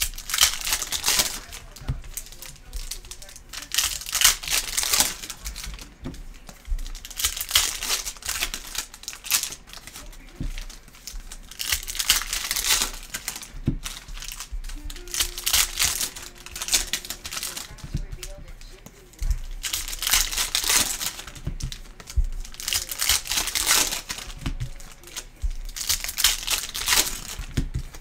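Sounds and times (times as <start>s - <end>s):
foil wrappers crinkling: 0.0s - 28.0s.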